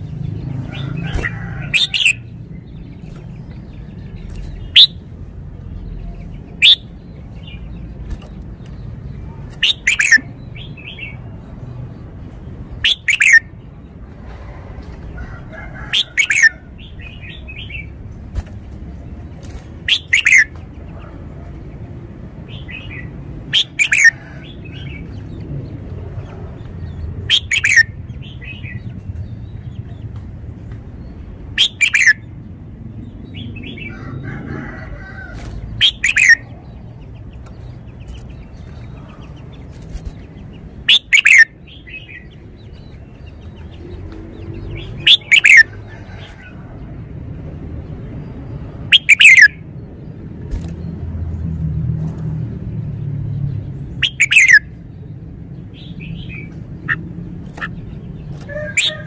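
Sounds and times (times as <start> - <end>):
bird song phrases: 0.0 - 14.6, 15.2 - 46.8, 47.8 - 59.0.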